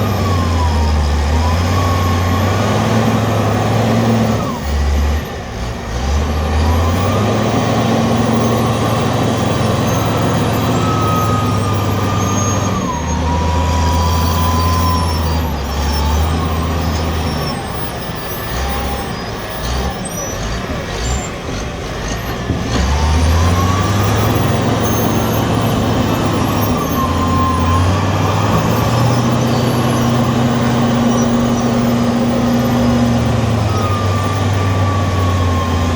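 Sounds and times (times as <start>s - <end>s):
diesel engine revving: 0.0s - 35.9s.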